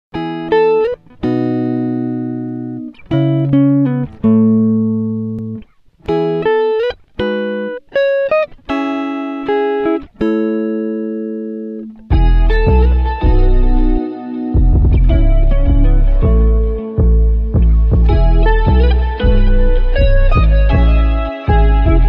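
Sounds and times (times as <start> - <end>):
plucked chords ringing: 0.2 - 22.0.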